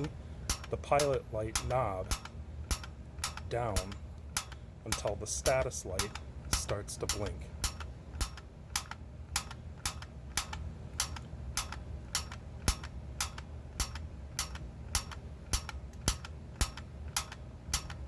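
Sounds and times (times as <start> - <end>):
igniter button clicks: 0.0 - 18.0.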